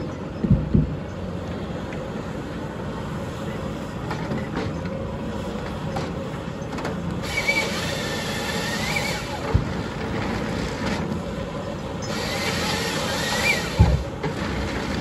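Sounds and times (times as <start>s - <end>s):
excavator diesel engine: 0.0s - 15.0s.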